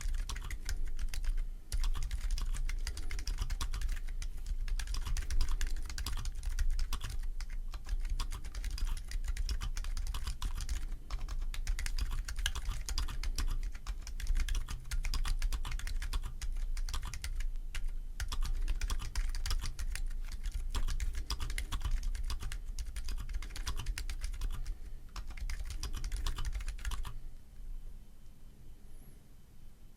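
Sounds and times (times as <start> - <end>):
muted keyboard keystrokes: 0.0 - 27.2.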